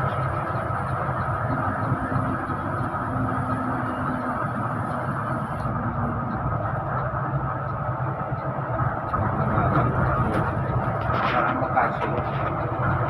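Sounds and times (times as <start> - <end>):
bus engine hum: 0.0 - 13.0
road noise: 0.0 - 13.0.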